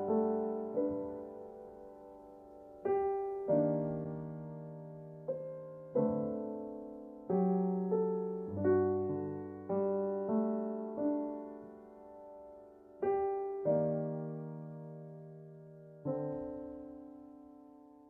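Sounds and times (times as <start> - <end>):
slow solo piano piece: 0.0 - 18.0.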